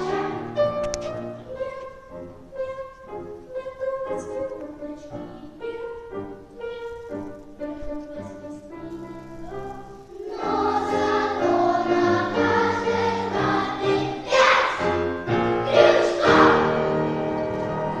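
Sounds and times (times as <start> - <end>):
children's choir singing: 0.0 - 7.1, 7.7 - 18.0.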